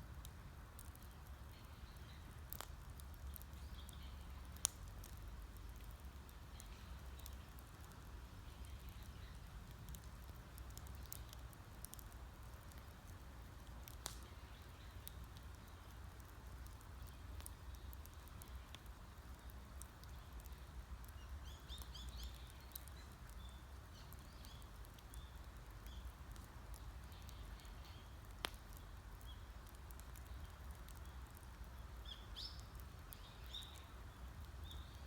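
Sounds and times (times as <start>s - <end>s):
campfire crackling and popping: 0.0s - 35.0s
small birds chirping: 0.8s - 35.0s.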